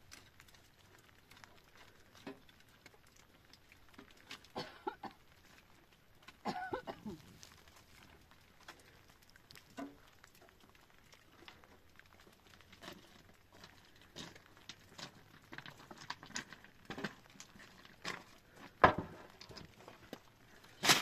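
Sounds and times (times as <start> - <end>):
branches and twigs clattering: 0.0 - 21.0
footsteps on loose stones: 4.2 - 21.0.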